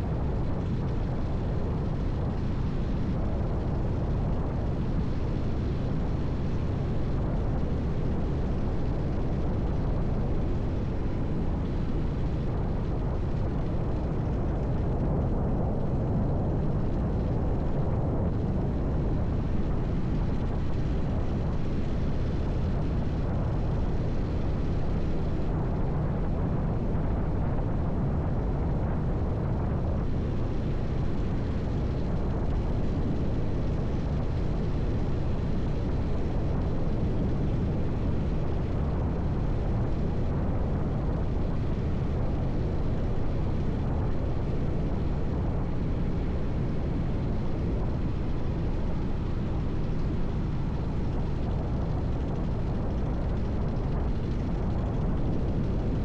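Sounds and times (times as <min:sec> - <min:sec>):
motorcycle engine drone: 0:00.0 - 0:56.0
wind and road noise: 0:00.0 - 0:56.0.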